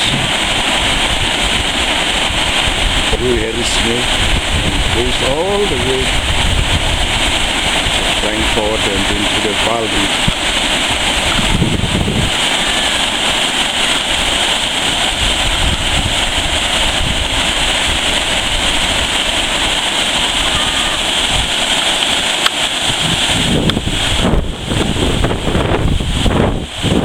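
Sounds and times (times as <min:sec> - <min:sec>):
wind buffeting microphone: 0:00.0 - 0:13.4, 0:14.0 - 0:21.8, 0:22.8 - 0:27.0
waterfall rushing: 0:00.0 - 0:27.0.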